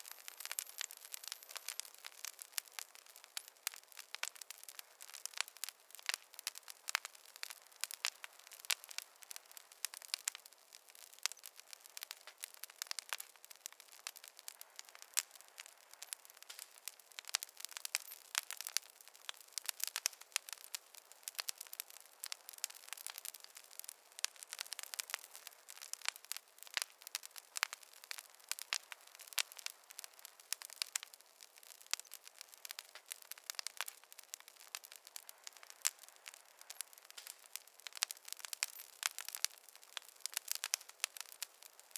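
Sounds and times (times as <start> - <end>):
campfire crackling and popping: 0.0 - 41.9
faint hiss: 0.0 - 41.9.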